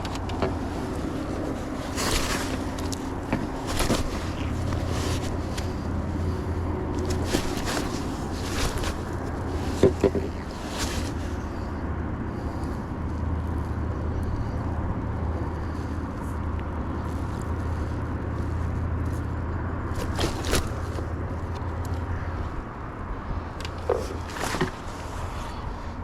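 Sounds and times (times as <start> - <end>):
outdoor ambience: 0.0 - 26.0.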